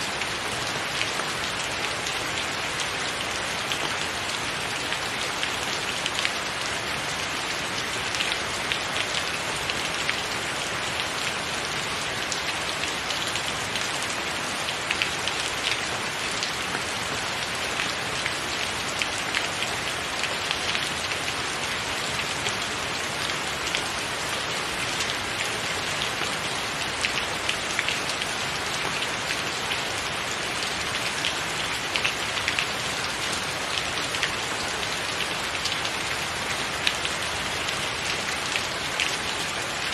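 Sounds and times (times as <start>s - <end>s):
rain on a tiled roof: 0.0s - 39.9s.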